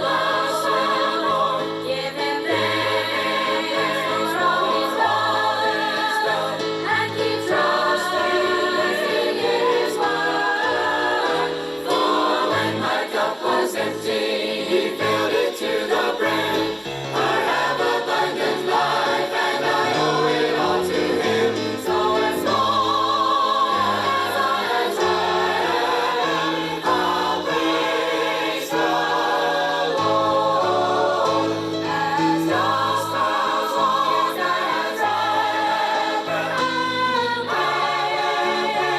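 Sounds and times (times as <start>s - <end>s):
choir singing gospel: 0.0s - 38.9s.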